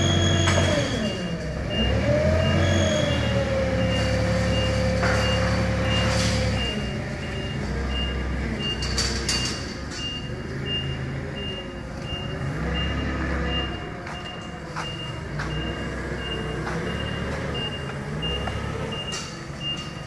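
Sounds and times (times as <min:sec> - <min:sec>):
forklift engine running: 0:00.0 - 0:20.0
high warning beeps: 0:00.0 - 0:20.0.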